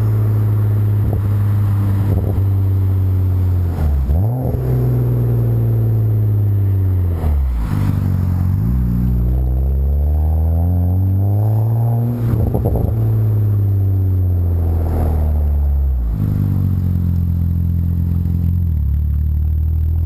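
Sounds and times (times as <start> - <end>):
car exhaust engine revving: 0.0 - 20.0.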